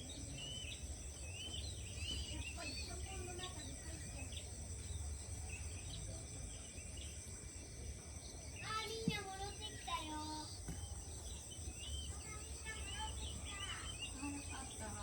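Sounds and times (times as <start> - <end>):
birds chirping: 0.0 - 15.0
insects droning: 0.0 - 15.0.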